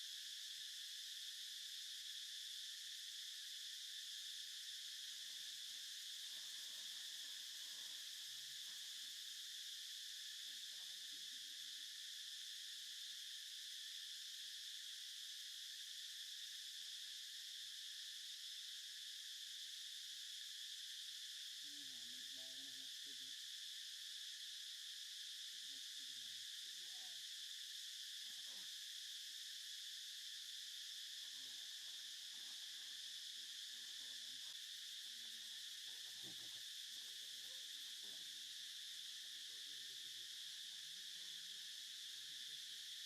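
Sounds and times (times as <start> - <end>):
insect chorus droning: 0.0 - 43.0.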